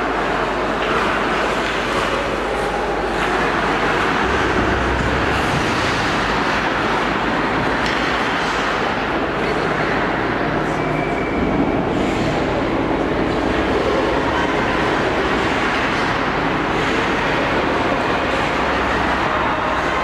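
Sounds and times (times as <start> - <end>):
indoor ice rink rumble: 0.0 - 20.0.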